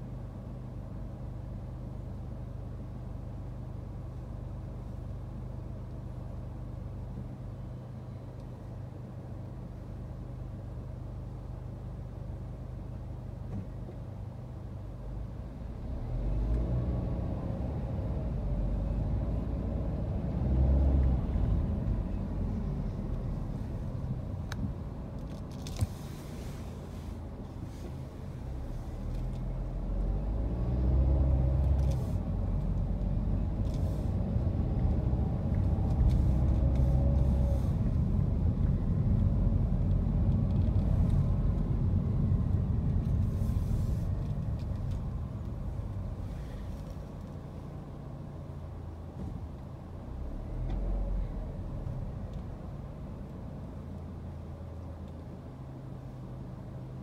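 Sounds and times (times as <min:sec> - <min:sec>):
car driving rumble: 0:08.4 - 0:57.0.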